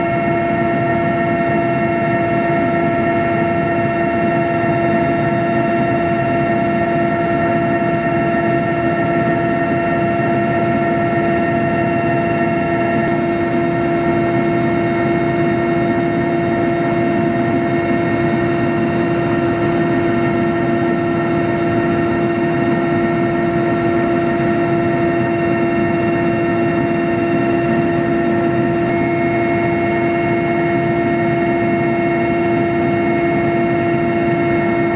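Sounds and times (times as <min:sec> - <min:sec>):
aircraft engine drone: 0:00.0 - 0:34.9
constant whine: 0:00.0 - 0:34.9.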